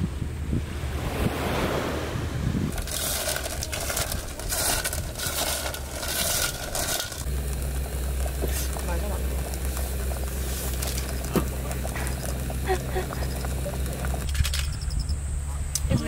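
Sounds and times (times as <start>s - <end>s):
wind rumbling on microphone: 0.0s - 16.0s
sea waves washing on shore: 0.6s - 14.3s
low steady hum: 2.2s - 16.0s.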